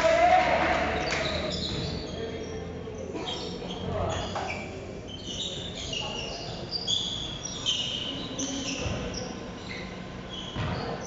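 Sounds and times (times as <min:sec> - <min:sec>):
players' voices in echoing hall: 0:00.0 - 0:11.0
shoe squeaks on court floor: 0:01.0 - 0:02.6, 0:03.2 - 0:11.0.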